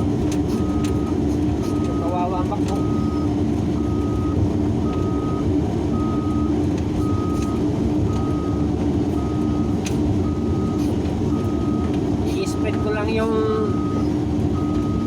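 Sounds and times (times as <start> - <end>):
diesel excavator engine drone: 0.0 - 15.0
back-up alarm beeping: 0.6 - 15.0.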